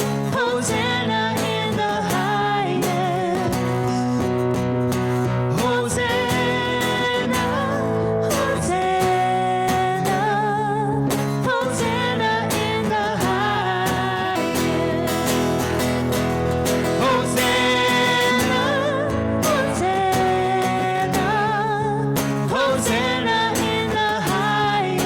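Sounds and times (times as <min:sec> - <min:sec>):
person singing with vibrato: 0:00.0 - 0:25.0
strummed acoustic guitar: 0:00.0 - 0:25.0.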